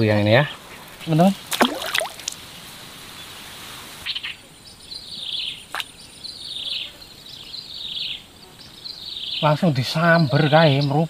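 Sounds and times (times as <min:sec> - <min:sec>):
swamp background hiss: 0:00.0 - 0:11.0.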